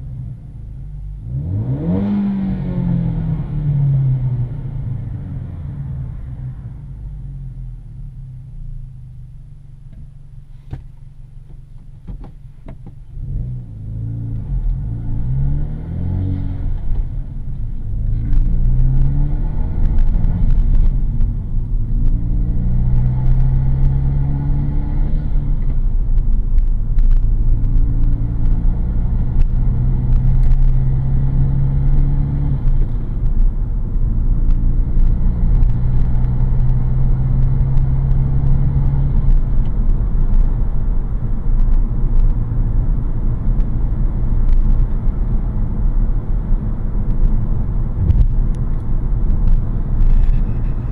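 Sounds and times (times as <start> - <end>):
car engine accelerating through gears: 1.1 - 6.8, 13.1 - 50.9.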